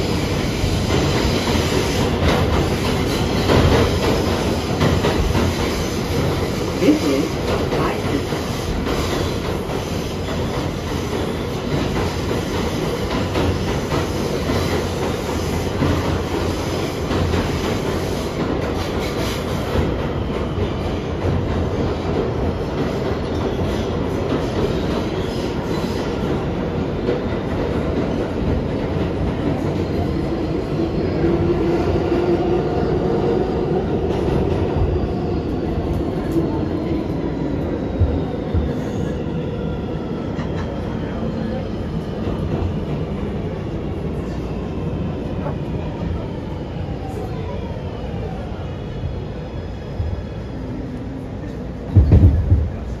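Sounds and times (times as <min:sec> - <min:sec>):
subway train wheels rumbling: 0:00.0 - 0:53.0.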